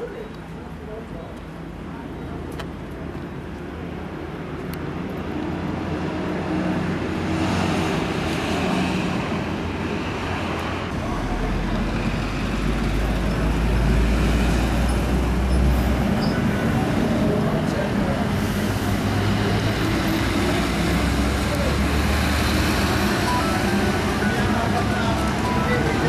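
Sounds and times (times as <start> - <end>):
heavy vehicle rumble: 0.0 - 26.0
street traffic: 0.0 - 26.0.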